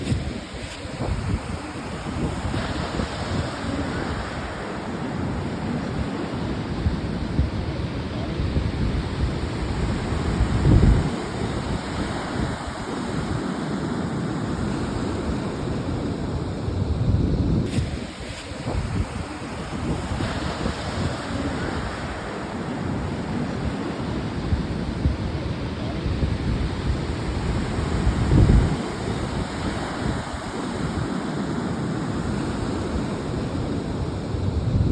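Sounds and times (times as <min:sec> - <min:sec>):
ocean surf washing onto beach: 0:00.0 - 0:34.9
wind buffeting microphone: 0:00.0 - 0:34.9.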